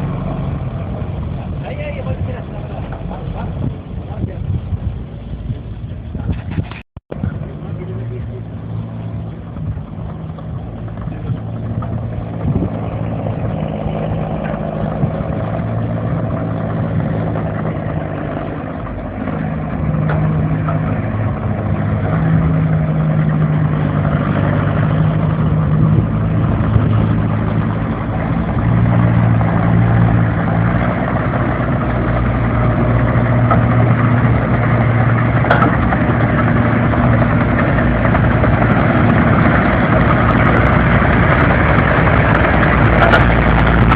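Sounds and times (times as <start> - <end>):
tracked vehicle engine running: 0.0 - 43.9.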